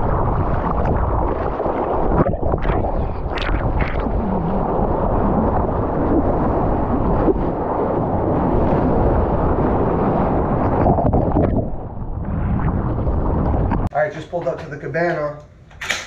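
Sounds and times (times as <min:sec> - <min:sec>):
seawater rushing and splashing: 0:00.0 - 0:13.9
wind buffeting microphone: 0:00.0 - 0:13.9.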